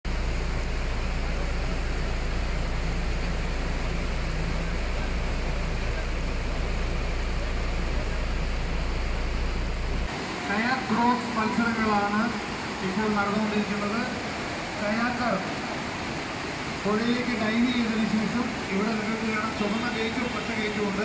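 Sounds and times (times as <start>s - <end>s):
heavy rain: 0.1s - 21.0s
rushing whitewater: 0.1s - 21.0s.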